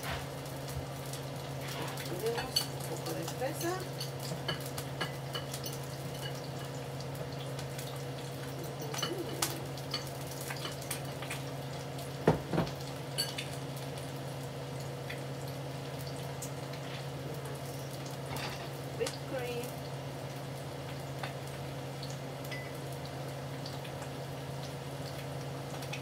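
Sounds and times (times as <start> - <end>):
bacon sizzling in a skillet: 0.0 - 26.0
small crackles: 0.0 - 26.0.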